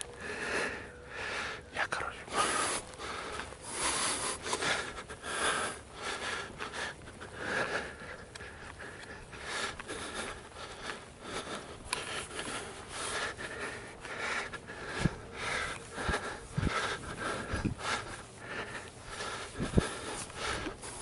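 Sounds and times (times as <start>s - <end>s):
person breathing heavily and sniffing: 0.0s - 21.0s.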